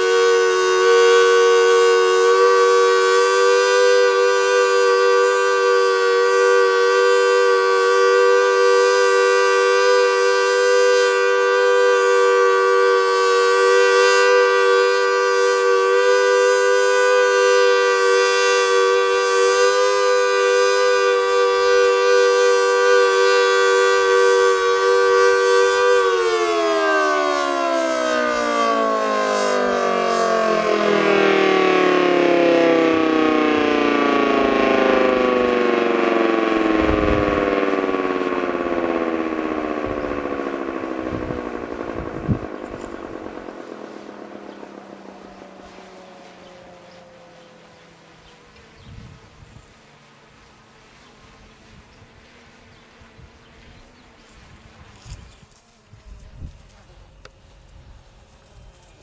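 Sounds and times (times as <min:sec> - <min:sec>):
two-tone tornado siren: 0:00.0 - 0:59.0.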